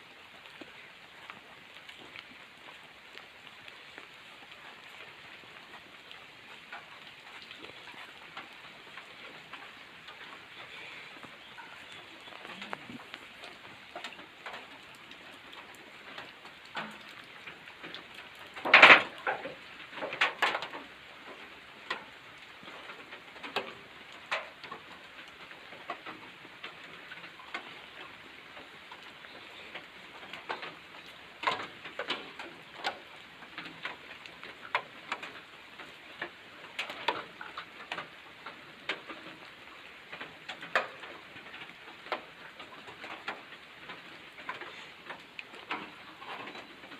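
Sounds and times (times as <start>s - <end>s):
rain falling: 0.0s - 46.9s
water drops dripping on surfaces: 0.4s - 46.9s.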